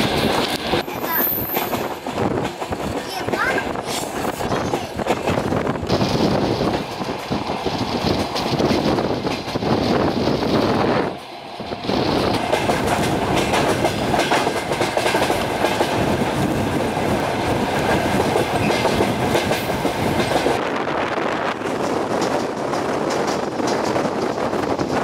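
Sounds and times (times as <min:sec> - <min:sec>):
clickety-clack over rail joints: 0:00.0 - 0:25.0
train wheels on rails: 0:00.0 - 0:25.0.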